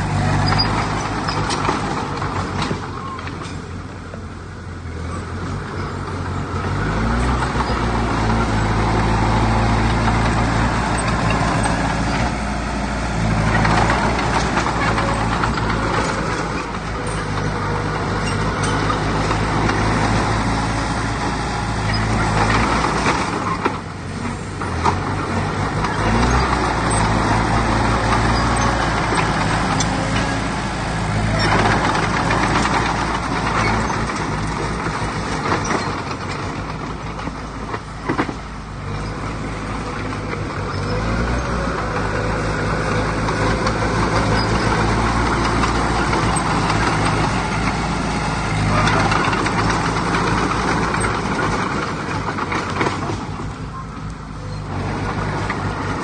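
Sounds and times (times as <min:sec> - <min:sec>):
heavy diesel machinery engine: 0:00.0 - 0:56.0.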